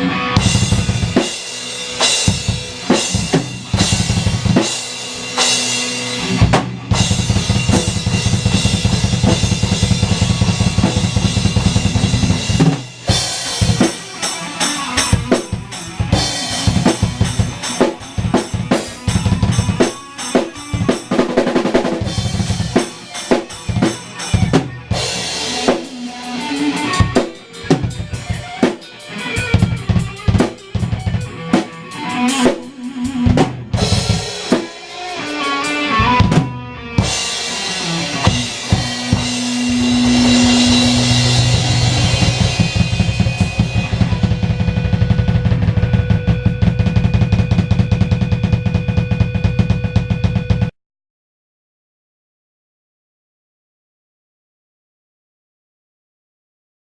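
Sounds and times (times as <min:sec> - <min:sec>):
drum kit playing: 0:00.0 - 0:50.7.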